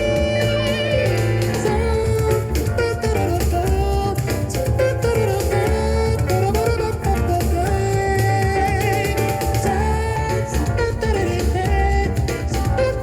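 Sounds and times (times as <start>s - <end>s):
drum and bass beat: 0.0s - 13.0s
wavering melody line: 0.0s - 13.0s.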